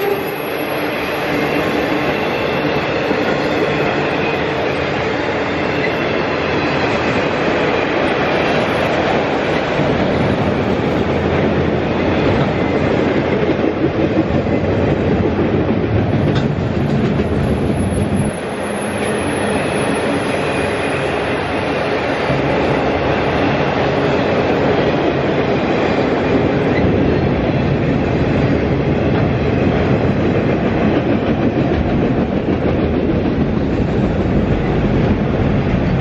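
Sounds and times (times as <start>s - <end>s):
steel wheels clattering on rails: 0.0s - 36.0s.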